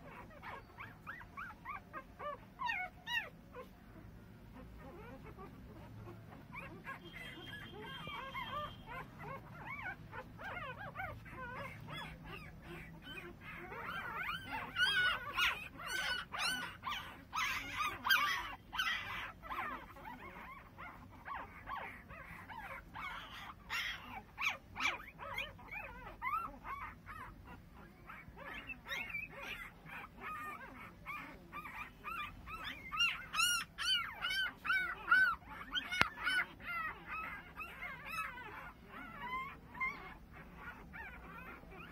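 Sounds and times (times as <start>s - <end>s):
puppies squeaking and whining: 0.0s - 41.9s.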